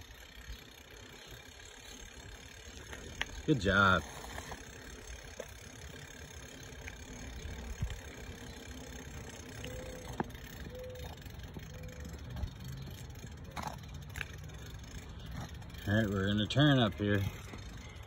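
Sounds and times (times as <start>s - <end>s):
bike rolling on concrete: 0.0s - 18.0s.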